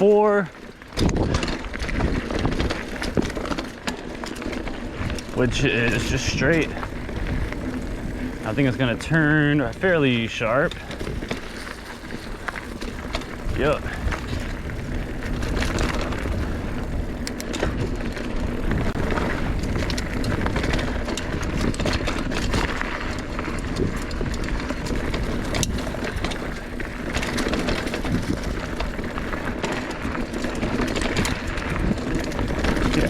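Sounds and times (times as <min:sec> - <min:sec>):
bike clicking and rattling: 0:00.0 - 0:33.0
bike tyres rushing on dirt trail: 0:00.0 - 0:33.0.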